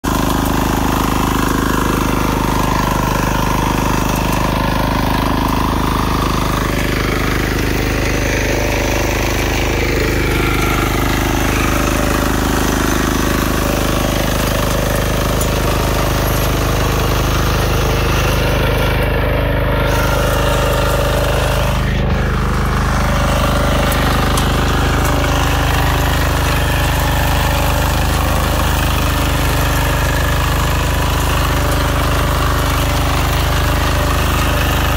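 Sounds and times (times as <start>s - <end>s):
power tiller engine running: 0.0s - 34.9s
tines digging through soil: 0.1s - 34.9s.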